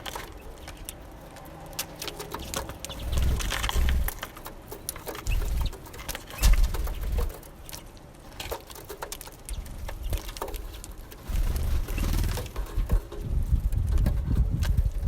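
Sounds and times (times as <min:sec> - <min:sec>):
birds pecking at feeder: 0:00.0 - 0:15.0.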